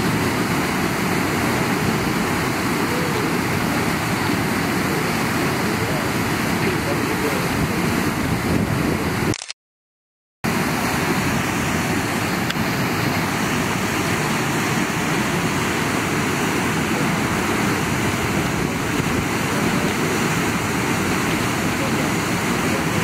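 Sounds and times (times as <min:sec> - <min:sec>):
flowing water rushing: 0:00.0 - 0:09.3, 0:10.5 - 0:23.0.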